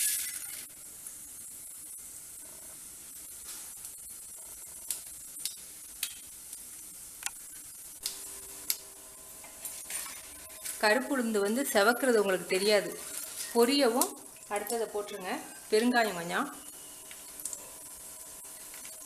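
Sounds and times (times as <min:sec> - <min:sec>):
seeds sizzling in hot oil: 0:00.0 - 0:19.0.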